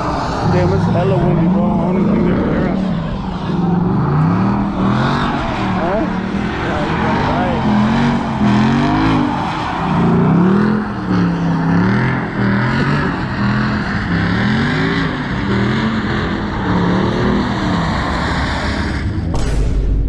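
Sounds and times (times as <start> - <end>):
engine revving hard: 0.0 - 19.4
steady rushing noise: 0.0 - 20.0.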